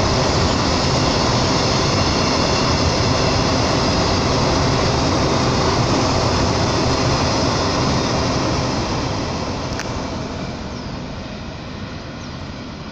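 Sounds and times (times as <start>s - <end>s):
freight train wheels rumbling: 0.0s - 12.9s.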